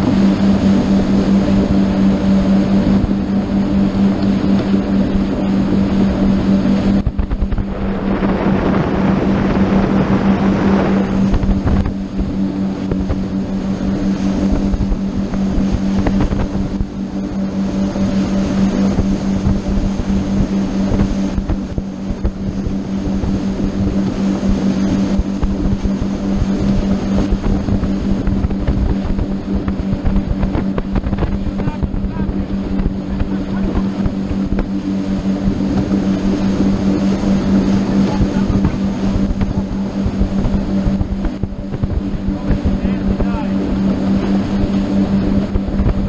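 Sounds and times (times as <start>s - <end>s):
motorboat engine humming: 0.0s - 46.0s
water rushing past: 0.0s - 46.0s
wind buffeting microphone: 0.0s - 46.0s.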